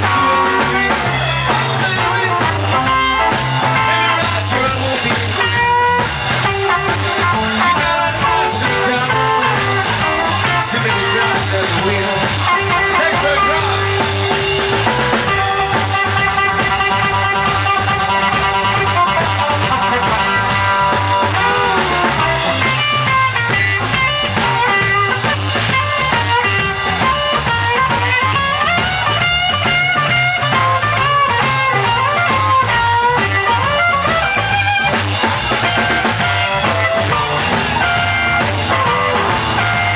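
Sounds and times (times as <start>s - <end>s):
drum kit beat: 0.0s - 39.9s
electric guitar lead: 0.0s - 39.9s.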